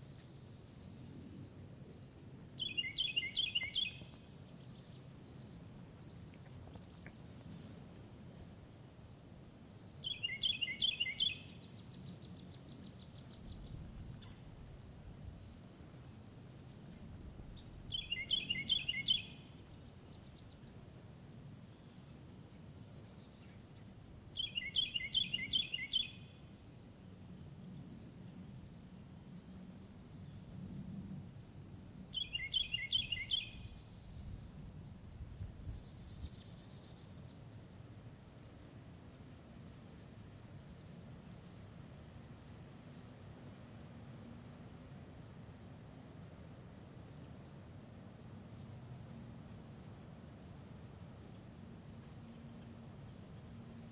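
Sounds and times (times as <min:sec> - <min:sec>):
faint low background rumble: 0:00.0 - 0:25.2, 0:25.8 - 0:53.9
songbird singing: 0:00.0 - 0:53.9.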